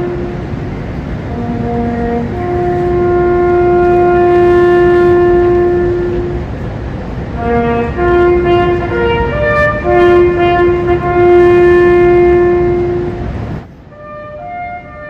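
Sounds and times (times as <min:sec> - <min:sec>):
bugle call: 0:01.3 - 0:06.4, 0:07.4 - 0:13.3, 0:14.0 - 0:15.0.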